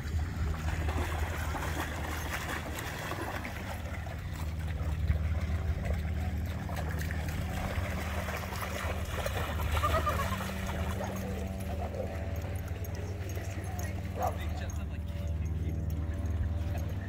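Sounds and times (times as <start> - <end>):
steady low hum: 0.0 - 17.0
water splashing and trickling: 0.0 - 17.0.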